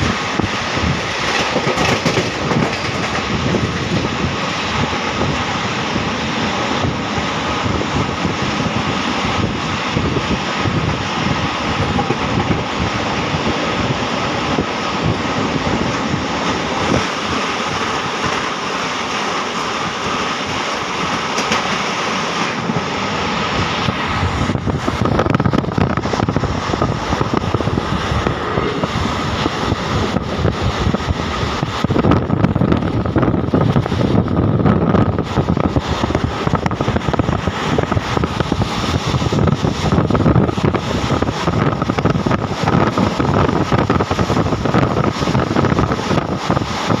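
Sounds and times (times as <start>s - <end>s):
train wheels rumbling on rails: 0.0s - 47.0s
wind on microphone: 0.0s - 47.0s.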